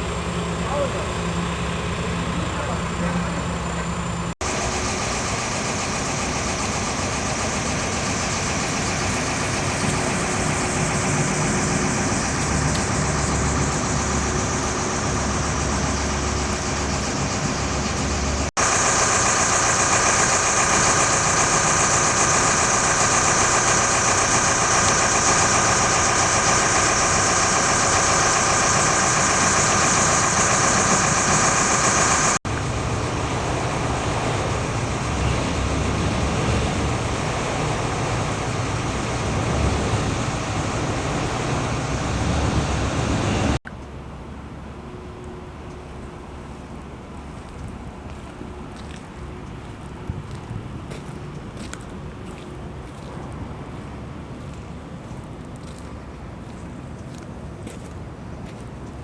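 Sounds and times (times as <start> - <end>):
diesel engine running: 0.0 - 59.0
steady high whine: 0.0 - 59.0.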